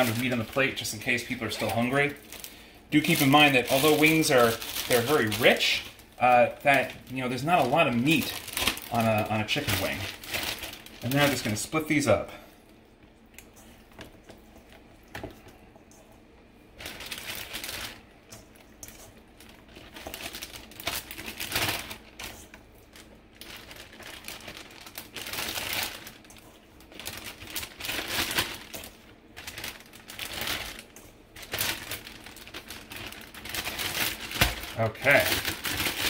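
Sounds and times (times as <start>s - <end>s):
plastic bag crinkling: 0.0s - 12.5s, 16.7s - 36.0s.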